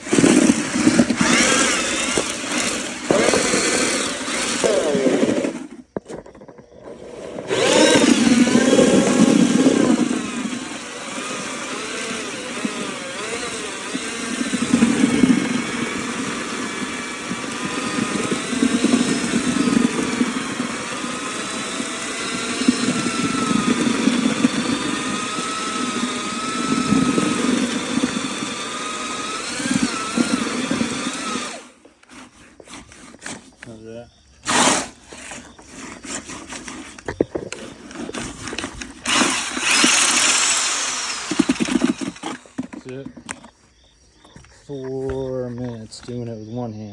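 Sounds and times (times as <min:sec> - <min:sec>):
electric drill mixer whining: 0:00.0 - 0:33.6, 0:34.4 - 0:43.5.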